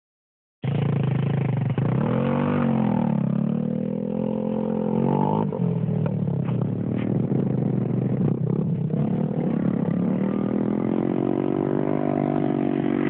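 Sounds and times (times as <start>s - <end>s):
motorcycle engine revving: 0.6s - 13.0s.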